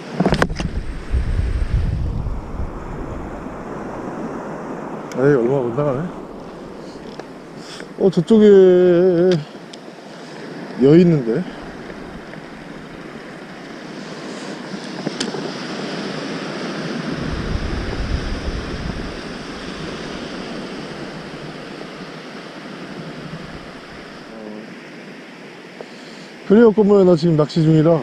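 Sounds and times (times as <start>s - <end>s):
wind rumbling on microphone: 0.0s - 9.4s, 10.3s - 25.6s
surf washing onto sand: 0.0s - 28.0s.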